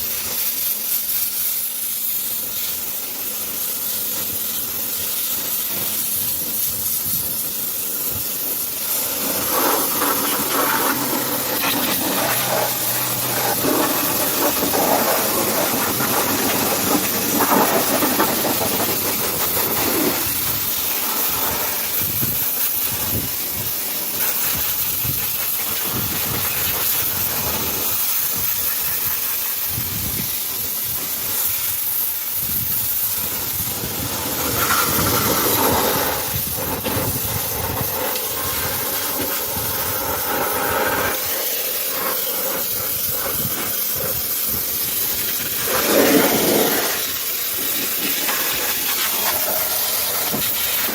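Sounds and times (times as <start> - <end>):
pressure washer spraying water: 0.0 - 50.9.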